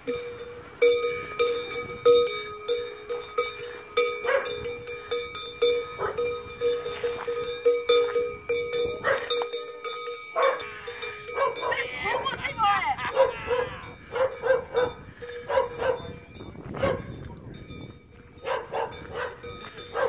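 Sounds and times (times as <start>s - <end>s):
metal bells clanging: 0.0s - 20.0s.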